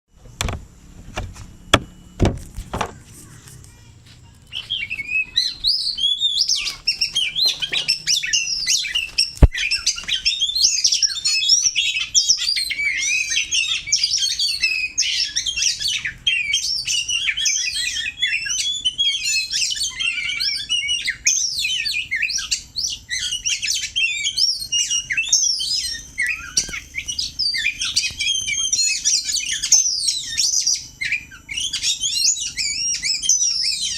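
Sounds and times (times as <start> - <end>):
magpie-robin singing: 4.4 - 33.9.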